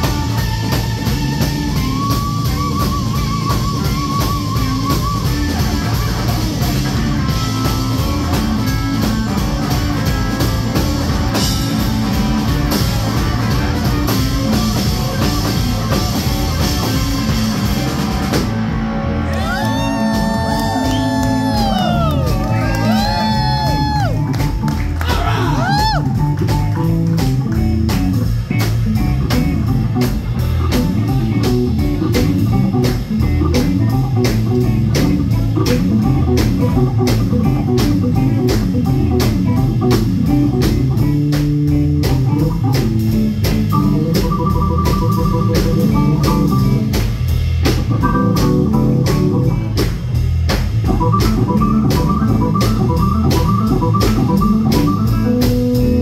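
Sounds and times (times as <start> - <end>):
bass guitar: 0.0 - 56.0
drum kit: 0.0 - 56.0
electric guitar: 0.0 - 56.0
organ keyboard solo: 0.0 - 56.0.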